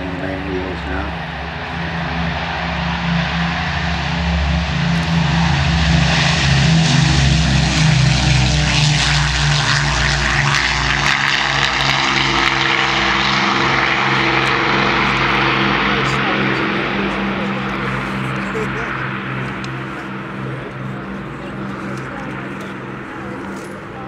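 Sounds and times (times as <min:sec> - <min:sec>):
aircraft piston engines droning: 0:00.0 - 0:24.0.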